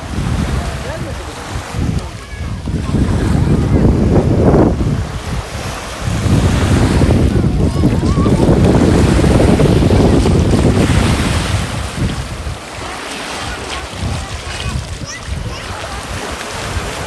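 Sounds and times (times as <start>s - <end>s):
sea waves on shore: 0.0s - 17.0s
wind buffeting microphone: 0.0s - 17.0s.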